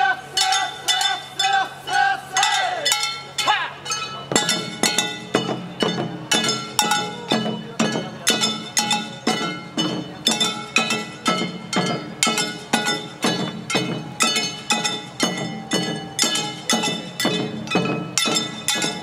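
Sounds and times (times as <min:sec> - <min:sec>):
hand gongs struck in steady beat: 0:00.0 - 0:19.0.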